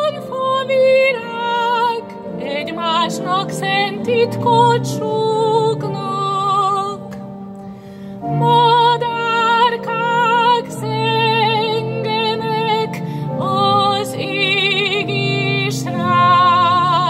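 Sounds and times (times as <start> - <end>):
woman singing a hymn with vibrato: 0.0 - 7.3, 8.2 - 17.0.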